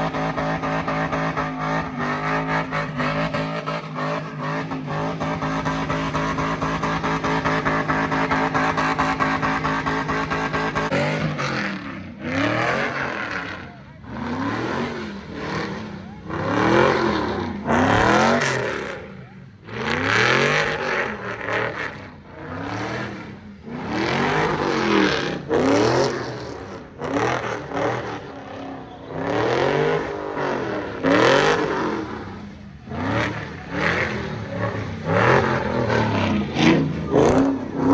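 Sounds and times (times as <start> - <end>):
car engine revving hard: 0.0 - 37.9.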